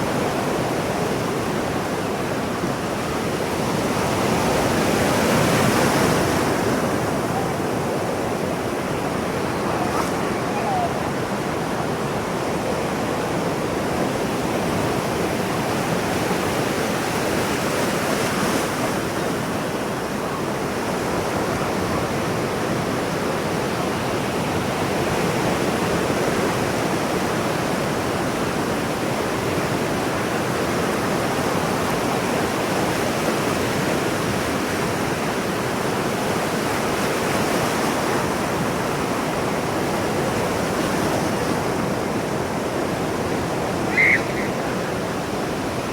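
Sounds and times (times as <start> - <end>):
ocean surf washing on shore: 0.0 - 45.9.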